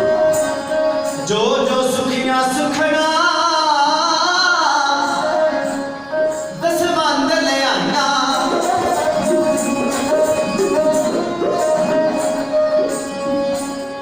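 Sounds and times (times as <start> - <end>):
steady instrumental backing tone: 0.0 - 14.0.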